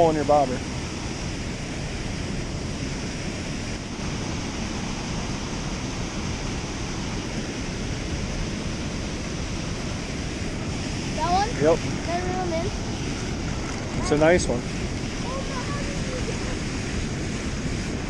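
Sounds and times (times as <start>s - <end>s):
water rushing through spillway: 0.0s - 18.0s.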